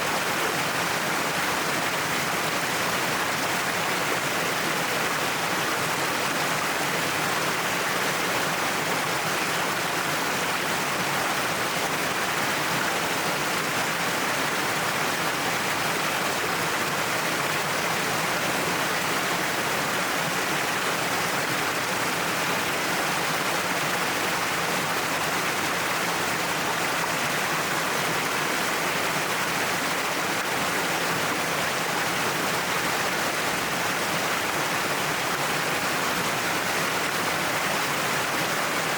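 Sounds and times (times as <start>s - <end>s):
waterfall pouring and splashing: 0.0s - 38.9s.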